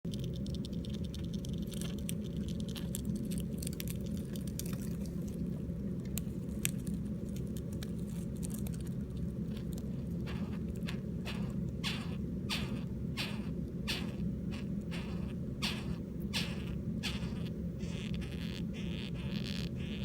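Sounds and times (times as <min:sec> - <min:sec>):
beetle scratchy ticks and crackles: 0:00.1 - 0:04.9, 0:06.4 - 0:20.0
steady low hum: 0:00.1 - 0:20.0.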